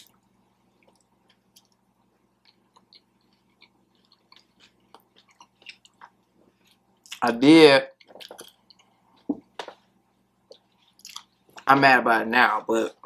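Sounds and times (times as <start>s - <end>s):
faint chewing of food: 0.0s - 7.3s, 7.9s - 11.7s.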